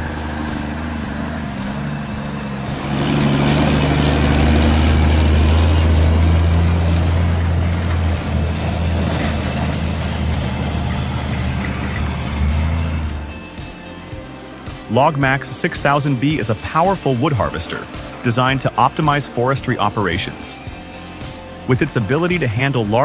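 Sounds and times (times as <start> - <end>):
truck diesel engine drone: 0.0 - 23.0.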